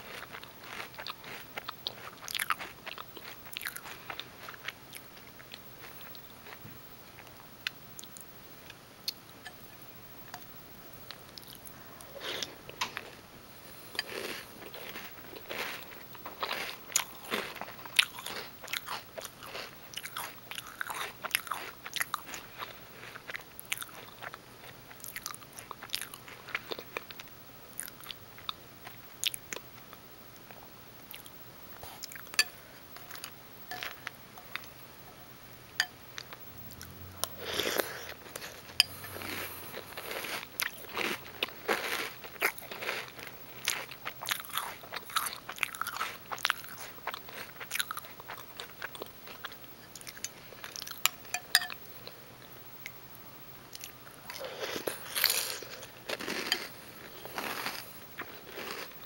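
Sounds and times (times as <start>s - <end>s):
person chewing crunchy cereal: 0.0s - 6.6s, 11.1s - 27.2s, 27.8s - 29.6s, 30.5s - 34.8s, 35.8s - 52.2s, 53.7s - 59.0s.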